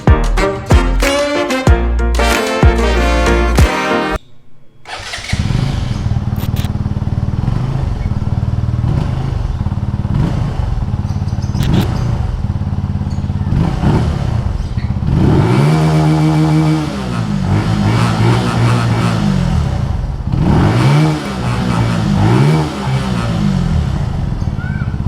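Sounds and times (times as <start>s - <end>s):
motorcycle engine running: 4.9s - 25.0s.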